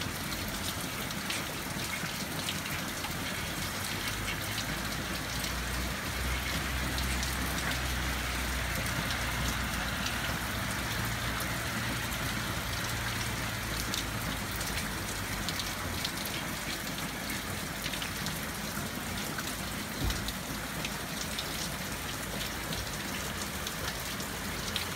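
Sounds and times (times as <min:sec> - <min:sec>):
hard rain falling: 0:00.0 - 0:24.9
water dripping on metal awning: 0:00.0 - 0:24.9.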